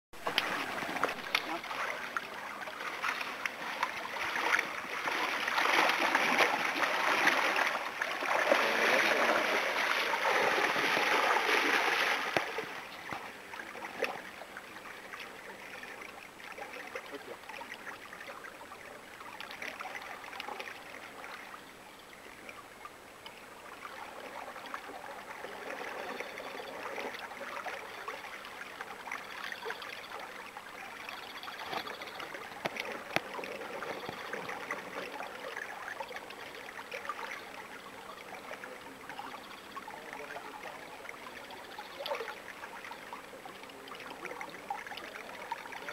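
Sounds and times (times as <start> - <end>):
water splashing: 0.2 - 21.5, 23.8 - 45.9
river flowing: 0.2 - 45.9.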